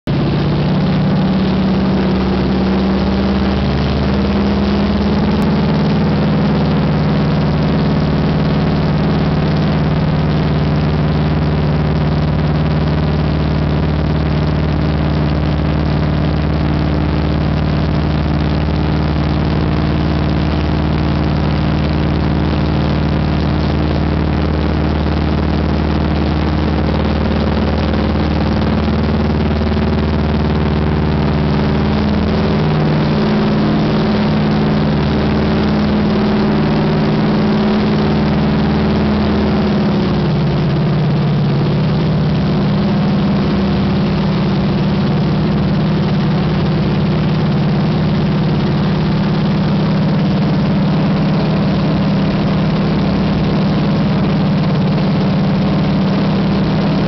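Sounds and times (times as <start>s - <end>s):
plane engine and propeller running: 0.1s - 57.0s.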